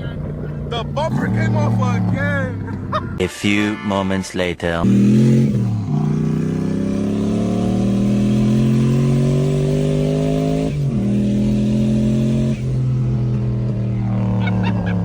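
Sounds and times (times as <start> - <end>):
car engine accelerating hard: 0.0 - 3.2, 4.8 - 15.0.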